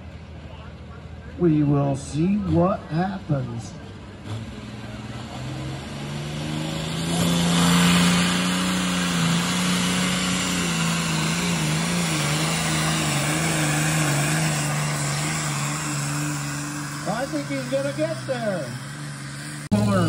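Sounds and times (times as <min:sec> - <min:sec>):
tractor diesel engine at full throttle: 0:00.0 - 0:20.0.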